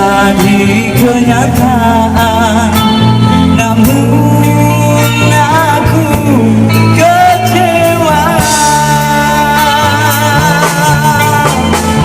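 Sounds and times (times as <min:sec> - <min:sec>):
band with bass and guitar: 0:00.0 - 0:12.0
man singing a ballad: 0:00.0 - 0:12.0.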